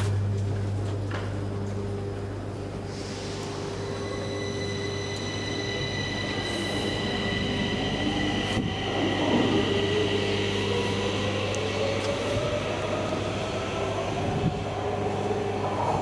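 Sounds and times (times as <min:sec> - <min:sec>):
metro train whine: 0:00.0 - 0:16.0.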